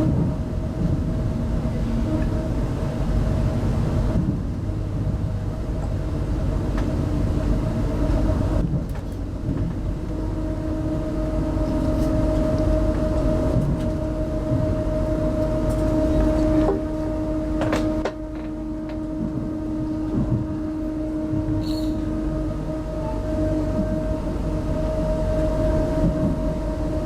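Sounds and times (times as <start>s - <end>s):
constant hum: 0.0s - 27.0s
wheel-on-rail rumble: 0.0s - 27.0s.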